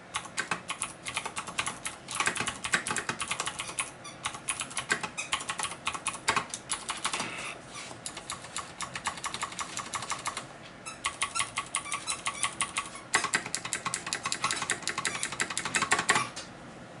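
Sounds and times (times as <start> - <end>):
fast typing on clicky keyboard: 0.1 - 7.3, 8.0 - 10.4, 11.0 - 16.3.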